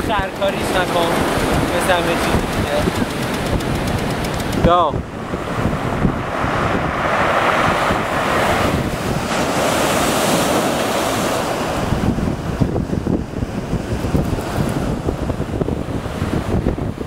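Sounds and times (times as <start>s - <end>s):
surf breaking on beach: 0.0s - 17.0s
wind rumbling on microphone: 0.0s - 17.0s.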